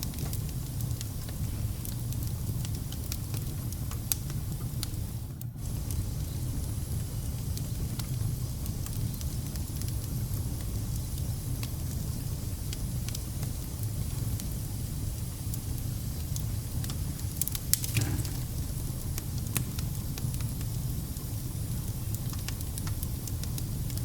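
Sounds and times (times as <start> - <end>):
fire crackles and pops: 0.0 - 24.0
low rumble of flames: 0.0 - 24.0.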